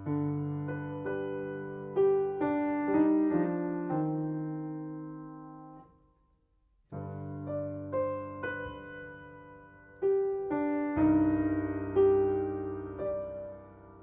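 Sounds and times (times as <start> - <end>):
solo piano playing: 0.0 - 14.0.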